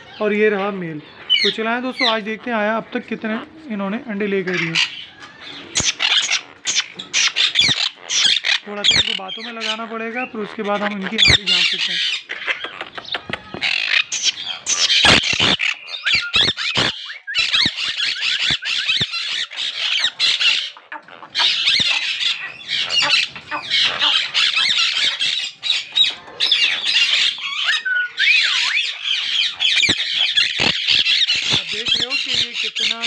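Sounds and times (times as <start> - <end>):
parakeets squawking harshly: 0.0 - 33.0.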